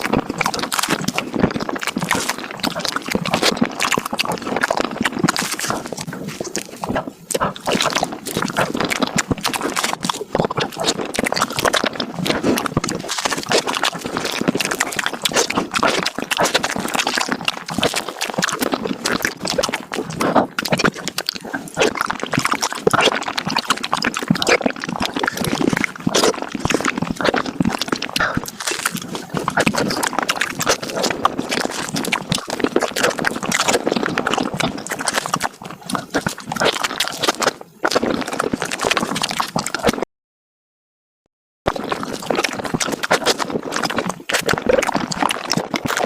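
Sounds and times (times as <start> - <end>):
wet chewing and slurping: 0.0 - 40.0, 41.7 - 46.0.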